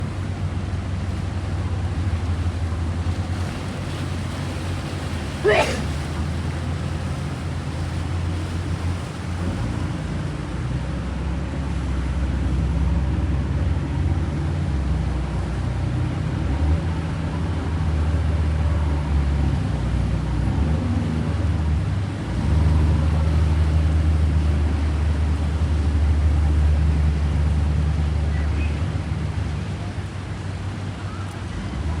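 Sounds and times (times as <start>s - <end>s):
boat engine rumble: 0.0s - 32.0s.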